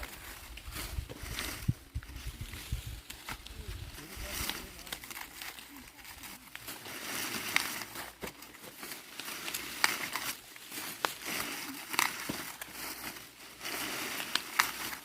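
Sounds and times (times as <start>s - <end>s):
dry rustling and crinkling: 0.0s - 15.0s.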